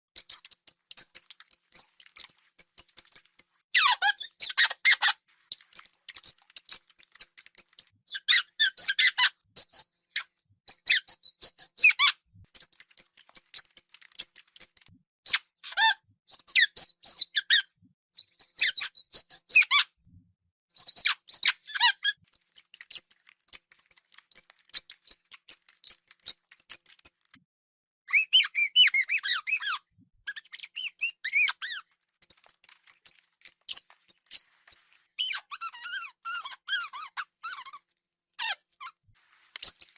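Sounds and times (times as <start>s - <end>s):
hamster squeaking: 0.2s - 20.0s, 20.8s - 27.4s, 28.1s - 39.9s.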